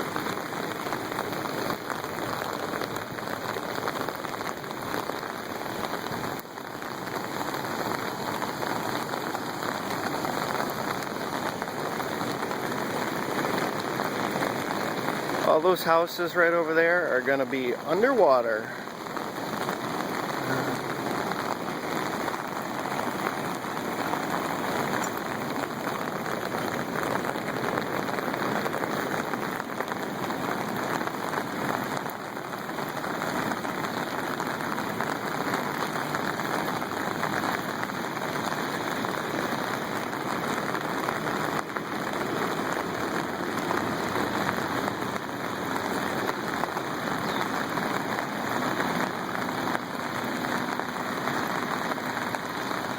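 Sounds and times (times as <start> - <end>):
rushing river water: 0.0 - 52.9.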